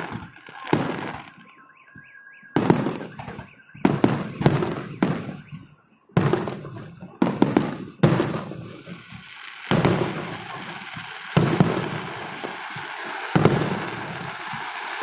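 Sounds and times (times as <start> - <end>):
fireworks shells bursting: 0.0 - 15.0.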